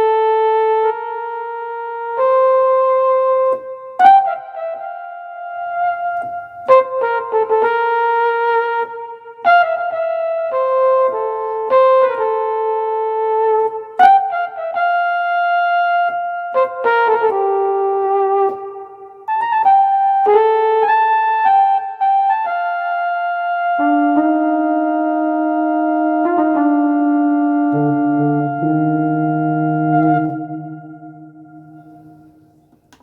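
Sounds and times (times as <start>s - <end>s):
synthesizer piano chords: 0.0s - 33.0s.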